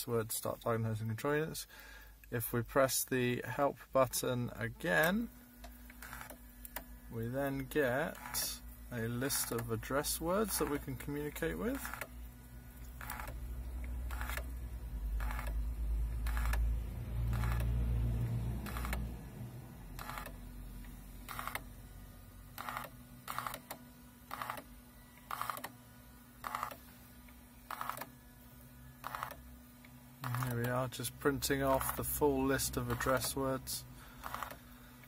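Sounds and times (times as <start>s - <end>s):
printer buzzing bursts: 3.5s - 35.0s.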